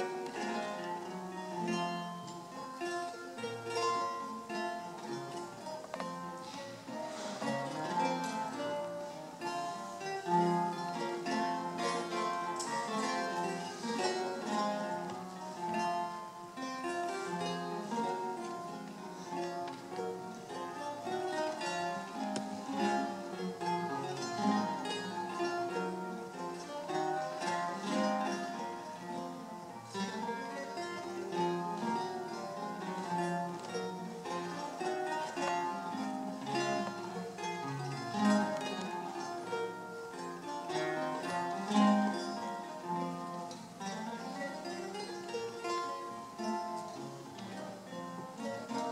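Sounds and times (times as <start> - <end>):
solo lute playing: 0.0 - 48.9.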